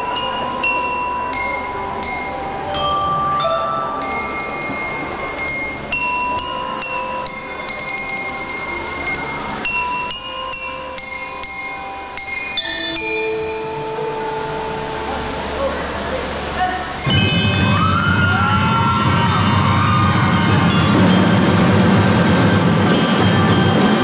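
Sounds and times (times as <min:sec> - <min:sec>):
bell lyres playing slow melody: 0:00.0 - 0:16.0, 0:17.1 - 0:24.0.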